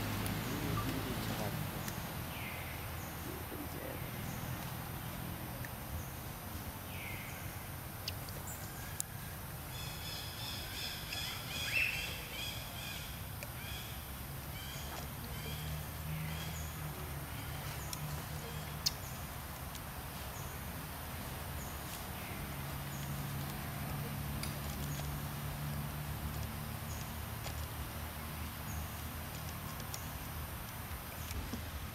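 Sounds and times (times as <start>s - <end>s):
low background noise: 0.0s - 31.9s.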